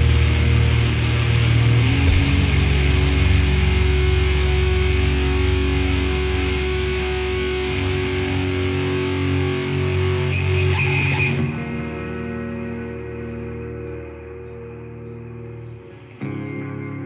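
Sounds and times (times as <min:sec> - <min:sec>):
clean electric guitar notes: 0:00.0 - 0:17.0
distorted guitar bass and cymbals: 0:00.0 - 0:17.0.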